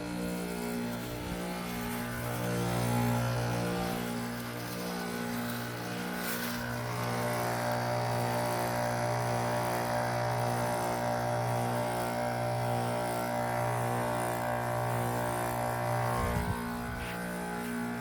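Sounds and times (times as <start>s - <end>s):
heat pump compressor humming: 0.0s - 18.0s.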